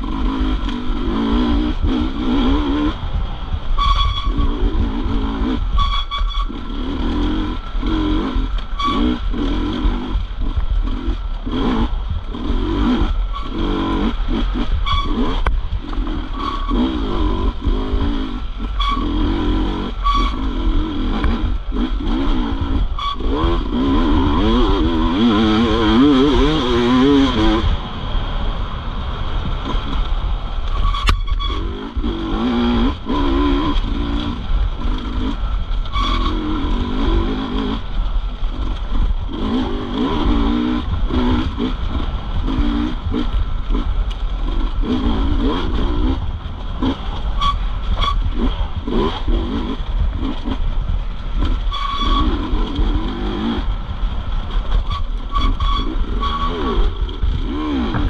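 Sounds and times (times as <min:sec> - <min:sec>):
dirt bike engine revving: 0:00.0 - 0:27.9, 0:29.4 - 0:58.0
constant low rumble: 0:00.0 - 0:58.0.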